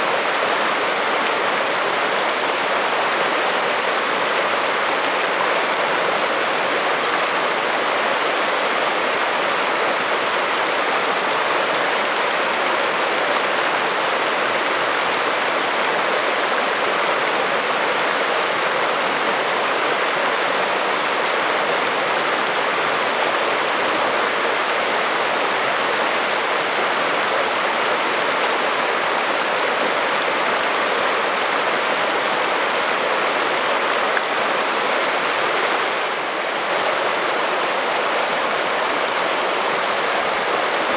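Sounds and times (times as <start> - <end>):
creek rushing over rocks: 0.0 - 40.9.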